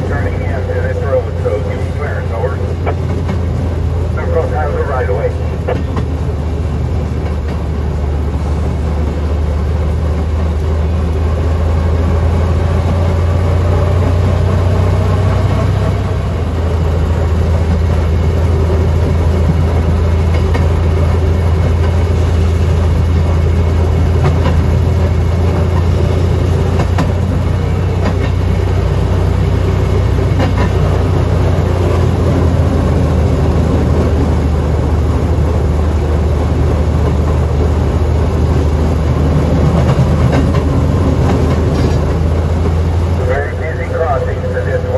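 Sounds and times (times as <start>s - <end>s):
rail car engine running: 0.0s - 44.9s
wheels clicking over rail joints: 2.6s - 4.2s, 5.4s - 14.4s, 16.4s - 43.2s.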